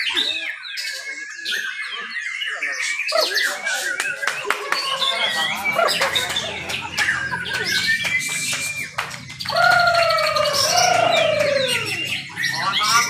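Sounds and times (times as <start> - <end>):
caged songbirds singing and chirping: 0.0 - 13.0.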